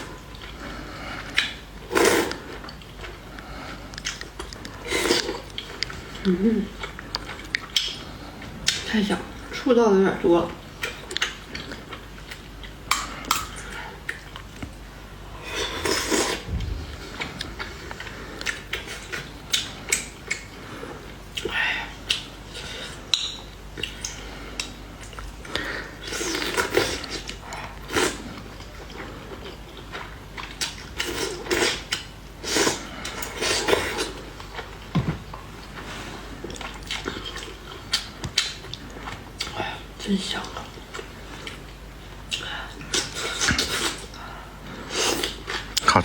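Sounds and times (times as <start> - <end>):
noisy eating: 0.0 - 46.0.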